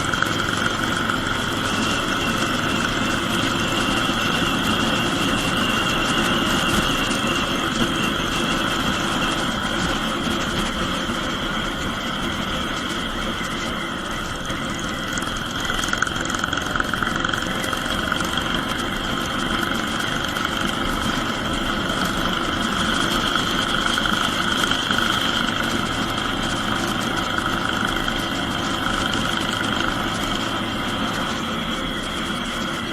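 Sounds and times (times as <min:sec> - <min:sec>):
high-pitched whine: 0:00.0 - 0:32.9.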